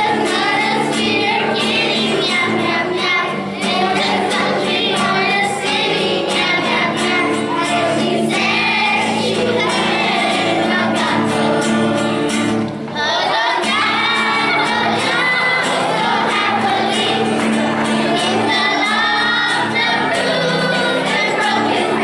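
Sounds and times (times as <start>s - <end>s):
children's choir singing: 0.0s - 22.0s
strummed acoustic guitar: 0.0s - 22.0s.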